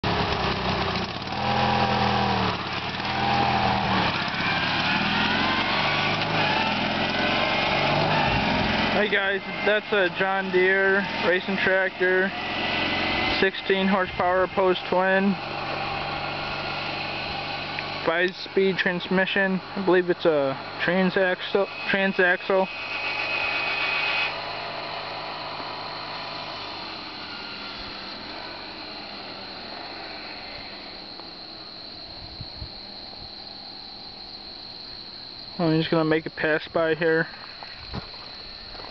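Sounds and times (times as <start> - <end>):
tractor engine revving: 0.0 - 38.9.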